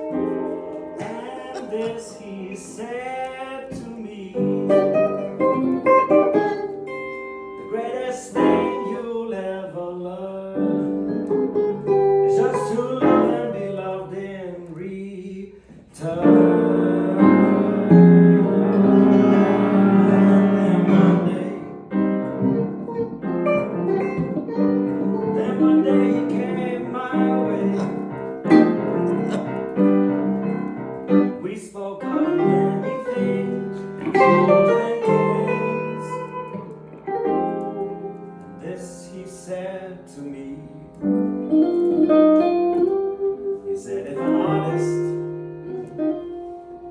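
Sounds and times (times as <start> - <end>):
piano instrumental music: 0.0 - 14.5, 16.0 - 46.9.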